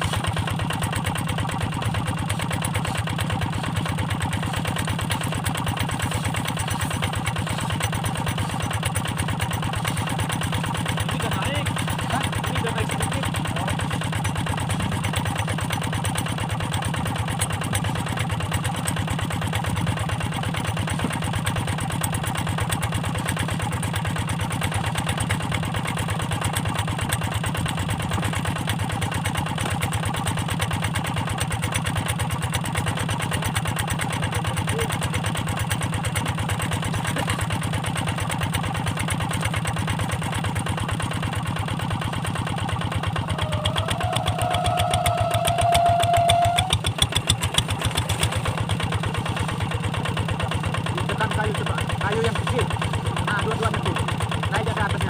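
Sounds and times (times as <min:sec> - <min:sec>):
diesel engine chugging: 0:00.0 - 0:55.0.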